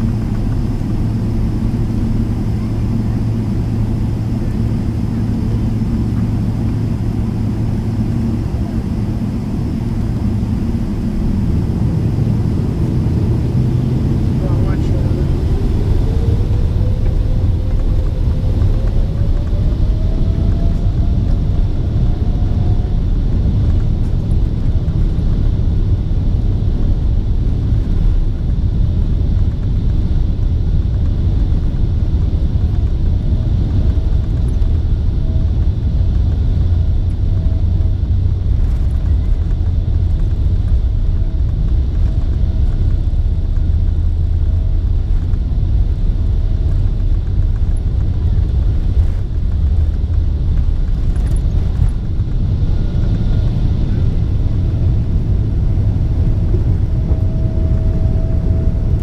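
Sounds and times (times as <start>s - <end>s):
jet engine rumble in cabin: 0.0s - 59.0s
jet engine whine: 0.0s - 59.0s.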